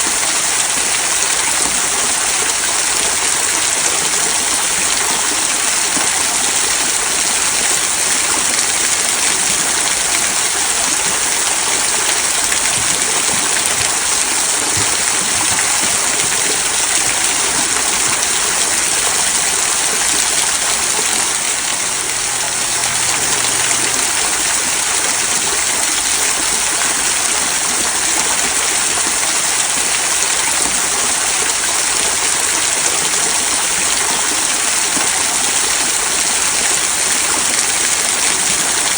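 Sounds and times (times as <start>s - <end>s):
waterfall trickling over stones: 0.0s - 38.9s.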